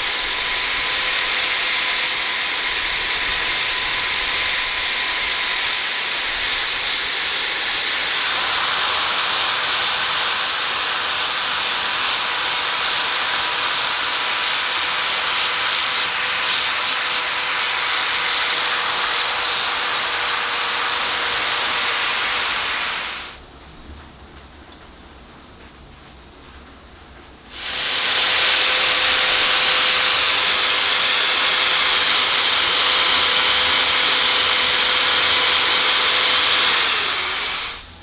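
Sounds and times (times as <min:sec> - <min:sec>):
electric sander on metal: 0:00.0 - 0:23.4, 0:27.5 - 0:38.0.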